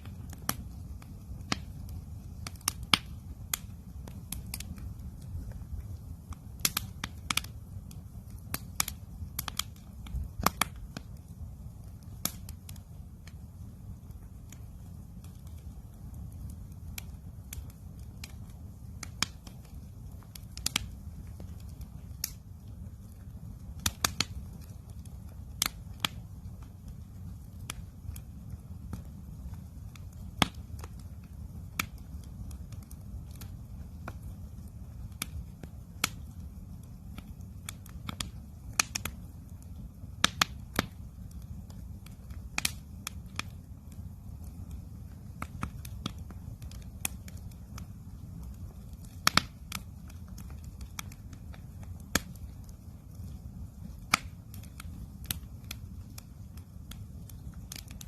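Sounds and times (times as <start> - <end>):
campfire crackling: 0.0 - 58.0
steady low rumble: 0.0 - 58.0.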